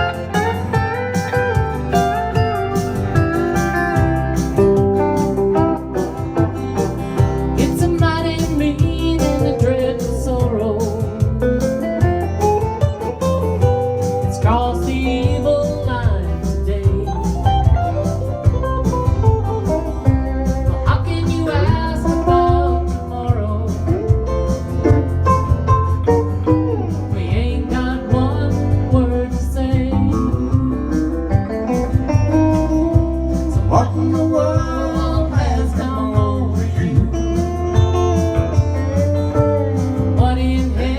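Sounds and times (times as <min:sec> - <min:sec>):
steady beat: 0:00.0 - 0:40.8
bass guitar: 0:00.0 - 0:40.9
slide guitar lead: 0:00.0 - 0:40.9.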